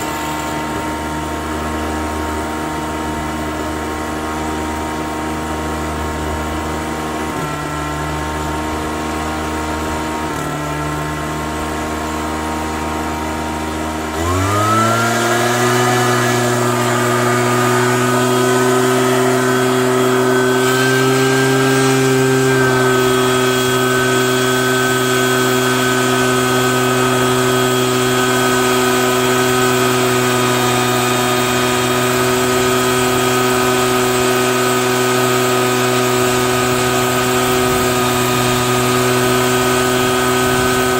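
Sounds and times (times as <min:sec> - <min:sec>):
leaf vacuum fan motor: 0:00.0 - 0:40.9.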